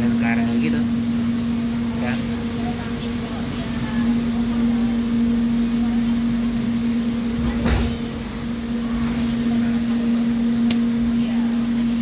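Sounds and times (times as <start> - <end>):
electrical hum: 0.0 - 12.0
train running rumble: 0.0 - 12.0.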